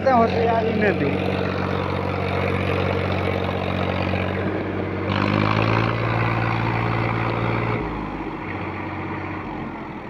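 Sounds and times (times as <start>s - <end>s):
tractor engine revving: 0.0s - 10.0s.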